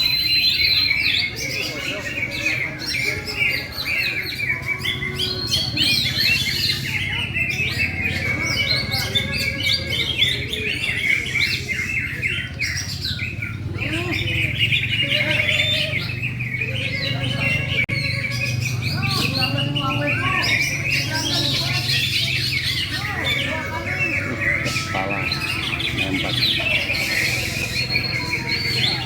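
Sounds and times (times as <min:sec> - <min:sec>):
bird chirping and trilling: 0:00.0 - 0:29.0.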